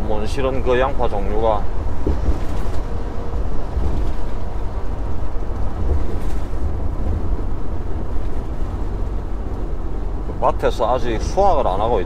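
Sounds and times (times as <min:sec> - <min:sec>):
truck diesel engine rumble: 0:00.0 - 0:12.0
tyre and road noise: 0:00.0 - 0:12.0.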